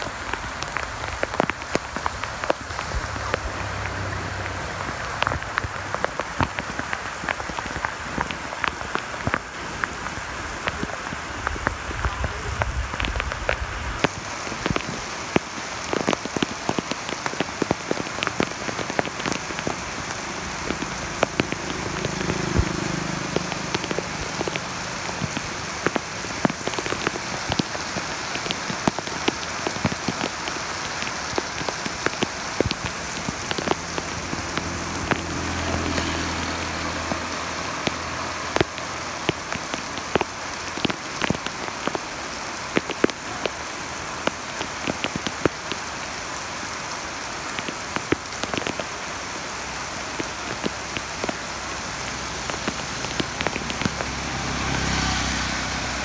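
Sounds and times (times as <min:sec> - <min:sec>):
heavy rain on pavement: 0:00.0 - 0:56.0
rain drops tapping: 0:00.0 - 0:56.0.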